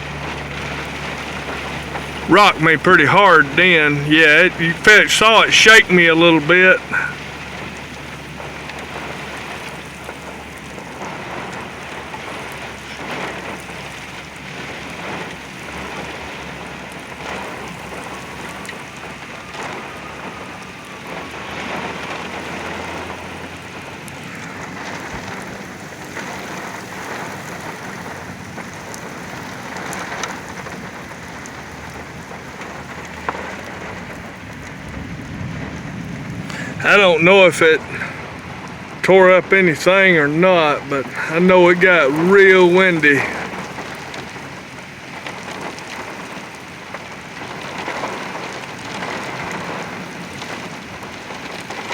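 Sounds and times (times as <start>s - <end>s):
heavy rain pelting a vehicle: 0.0s - 51.9s.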